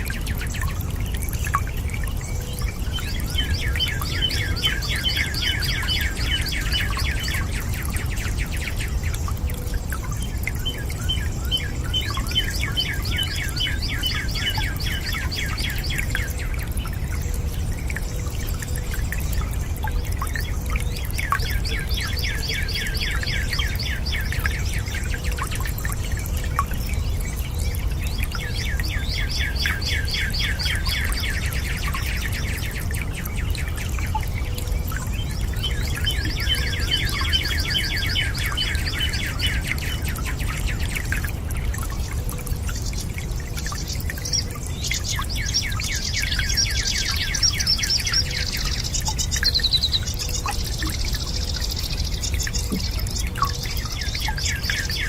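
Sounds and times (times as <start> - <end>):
low rush of water: 0.0 - 55.0
songbird singing trills: 0.0 - 55.0.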